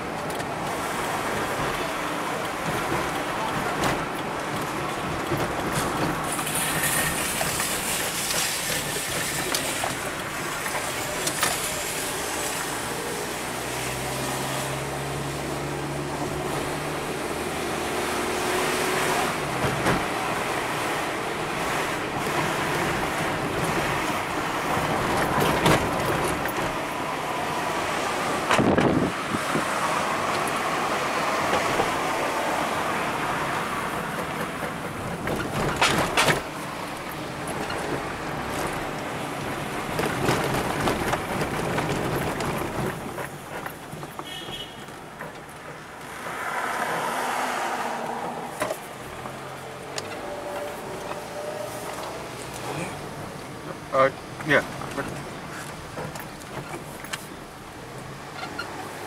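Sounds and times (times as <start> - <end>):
engine and tyre noise: 0.0 - 59.0.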